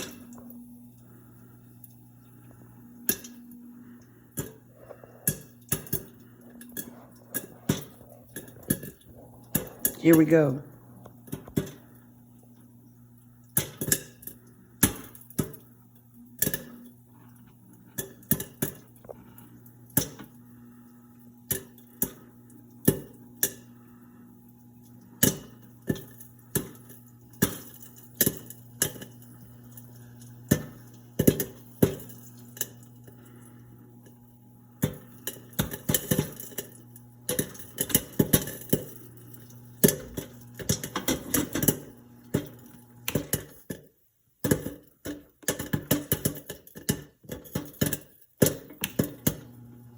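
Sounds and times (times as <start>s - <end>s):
stirring motor hum: 0.0s - 43.3s
popcorn popping: 0.0s - 49.9s.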